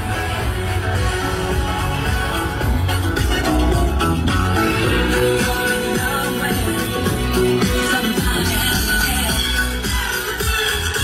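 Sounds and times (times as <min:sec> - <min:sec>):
pop song with bass on car stereo: 0:00.0 - 0:11.0.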